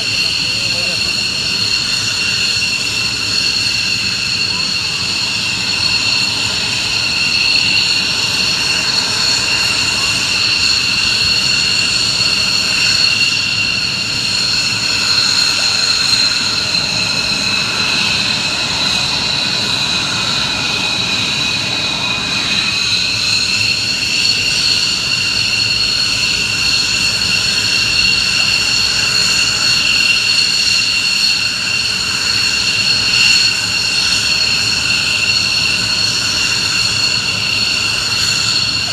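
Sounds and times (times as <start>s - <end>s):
jet engines high-pitched whine: 0.0s - 38.9s
jet rumble: 0.0s - 38.9s.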